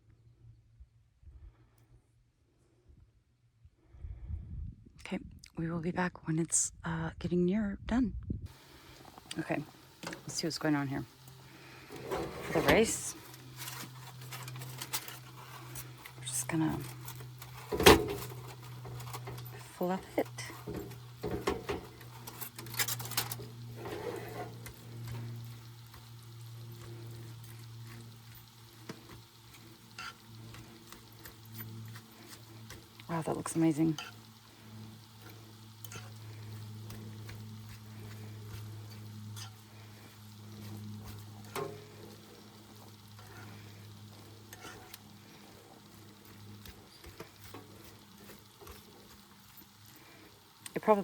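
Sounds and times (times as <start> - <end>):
camp stove burner hum: 8.5 - 51.0
food frying and sizzling: 8.5 - 51.0
utensil scraping in a pot: 8.5 - 51.0.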